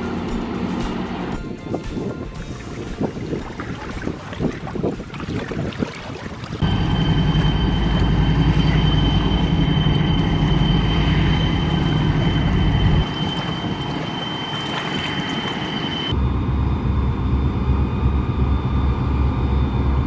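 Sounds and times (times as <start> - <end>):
diesel engines droning: 0.0 - 3.1, 6.6 - 20.0
high-pitched engine whine: 0.0 - 3.3, 6.6 - 20.0.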